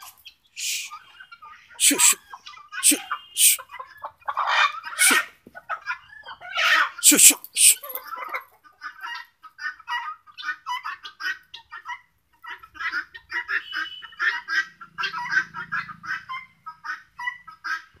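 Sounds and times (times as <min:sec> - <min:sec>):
guineafowl calling: 0:00.0 - 0:07.1, 0:08.0 - 0:18.0.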